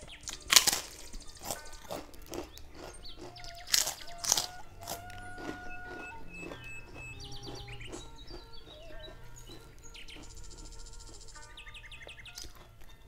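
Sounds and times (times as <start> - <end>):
bird-like chirping trills: 0.0 - 13.0
steady held tones: 0.0 - 13.0.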